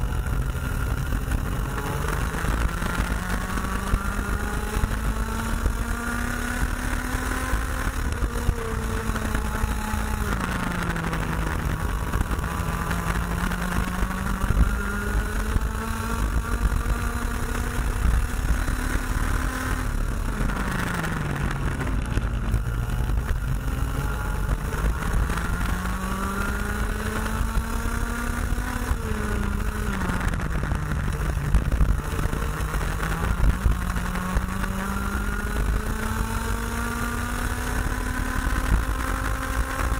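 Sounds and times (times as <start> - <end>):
constant low rumble: 0.0 - 39.9
two-stroke kart engine racing: 0.0 - 39.9.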